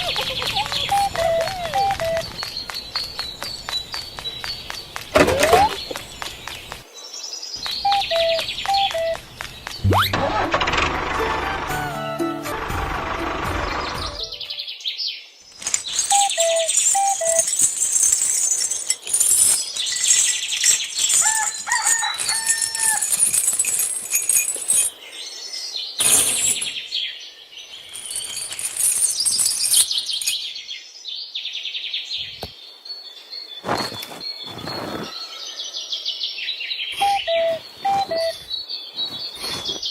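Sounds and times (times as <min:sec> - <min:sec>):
small birds chirping: 0:00.0 - 0:10.1, 0:13.7 - 0:39.9.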